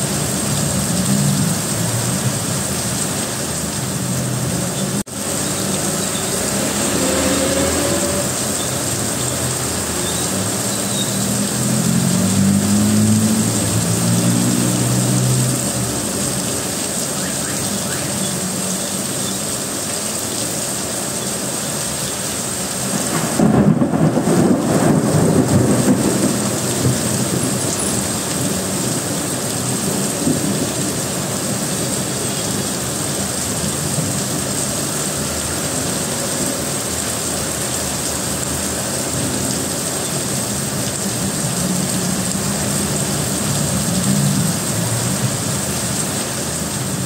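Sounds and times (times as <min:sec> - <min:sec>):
heavy rain on a car: 0:00.0 - 0:47.0
vehicles passing through water: 0:00.0 - 0:47.0.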